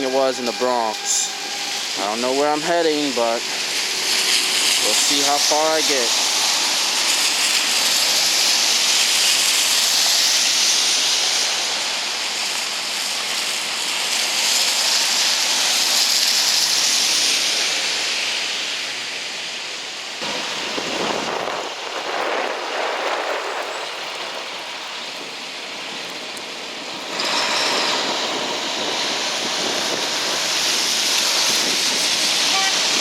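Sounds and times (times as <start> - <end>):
wet street noise: 0.0 - 33.0
wind hissing over microphone: 0.0 - 33.0.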